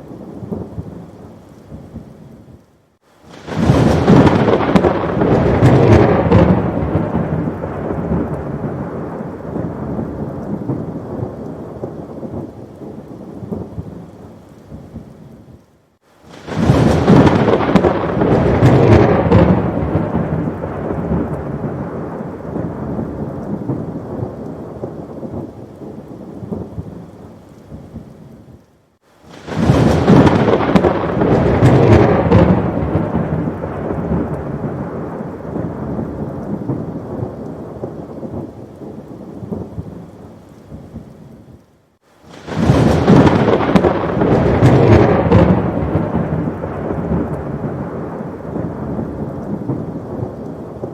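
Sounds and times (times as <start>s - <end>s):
heavy rain: 0.0s - 50.9s
rolling thunder: 3.3s - 14.1s, 16.3s - 27.1s, 29.3s - 40.1s, 42.2s - 50.9s.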